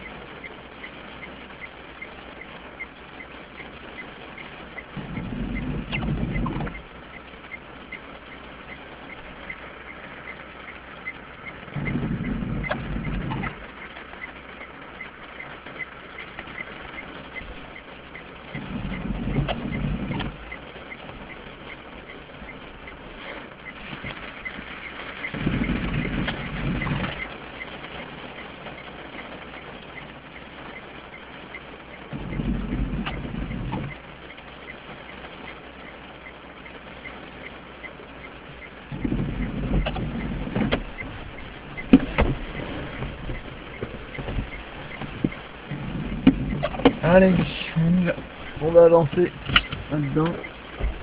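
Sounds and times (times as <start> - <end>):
faint fast regular ticking: 0.0 - 51.0
rain pattering on car: 0.0 - 51.0
windscreen wipers sweeping: 0.0 - 51.0.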